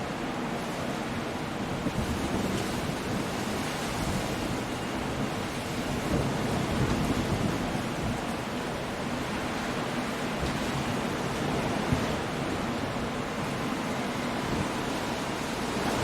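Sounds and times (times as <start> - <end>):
rain: 0.0 - 16.0
wind: 0.0 - 16.0
surf breaking against rocks: 2.0 - 16.0.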